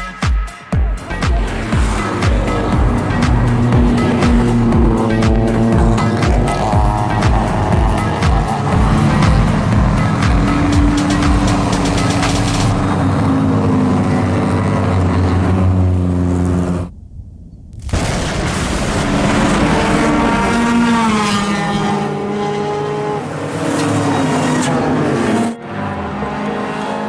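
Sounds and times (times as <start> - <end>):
racing car engine at high revs: 0.8 - 16.9, 18.0 - 27.0.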